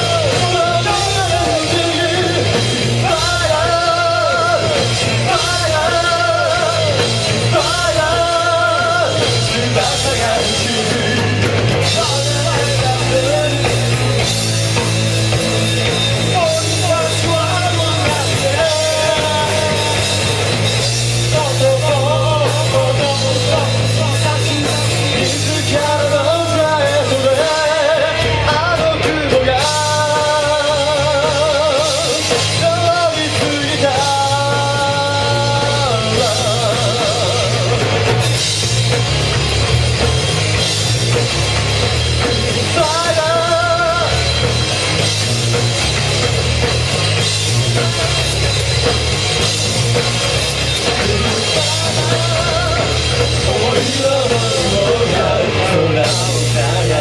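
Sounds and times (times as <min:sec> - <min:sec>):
lead singer singing: 0:00.0 - 0:38.6, 0:40.6 - 0:45.7, 0:49.4 - 0:57.0
rock band playing live: 0:00.0 - 0:57.0
steady bass line: 0:00.0 - 0:57.0.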